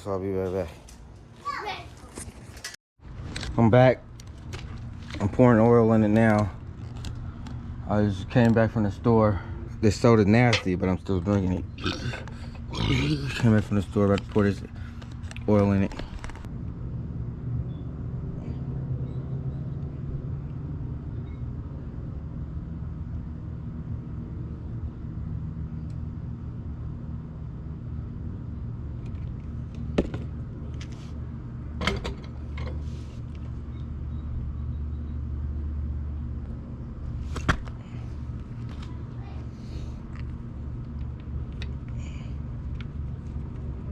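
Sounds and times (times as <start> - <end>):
engine rumble: 0.0 - 43.9.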